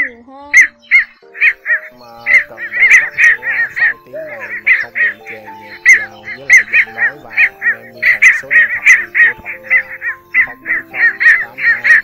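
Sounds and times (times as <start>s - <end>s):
background music sustained notes: 0.0s - 12.0s
bittern calls: 0.0s - 12.0s.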